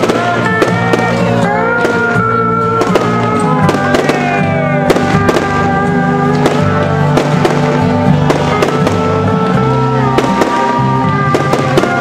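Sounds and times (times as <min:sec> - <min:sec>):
fireworks bangs and crackles: 0:00.0 - 0:12.0
loud music: 0:00.0 - 0:12.0.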